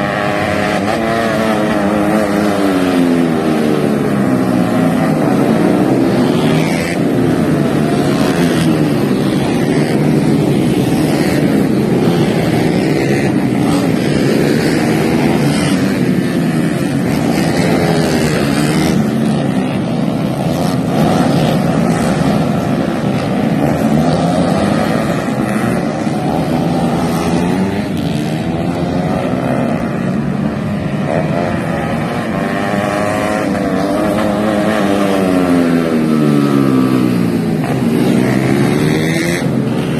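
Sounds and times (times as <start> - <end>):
racing motorcycles revving: 0.0 - 39.9.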